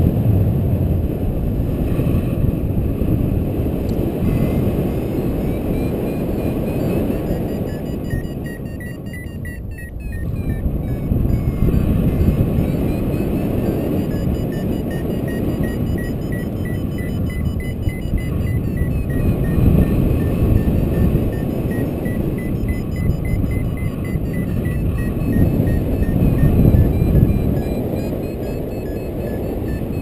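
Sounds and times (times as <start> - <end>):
wind rushing over microphone: 0.0 - 30.0
variometer beeping: 3.9 - 30.0.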